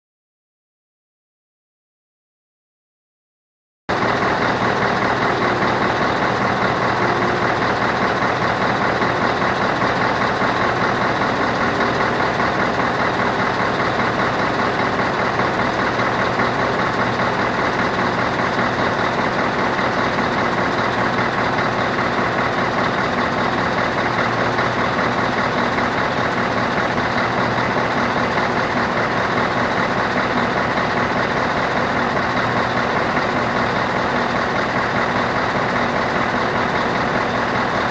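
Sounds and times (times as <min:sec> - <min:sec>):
diesel engine idling: 0:03.9 - 0:37.9.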